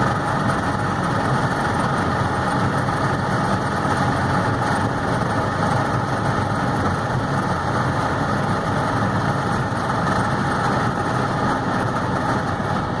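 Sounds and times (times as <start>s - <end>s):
car engine running: 0.0s - 13.0s
wind and tyre noise: 0.0s - 13.0s.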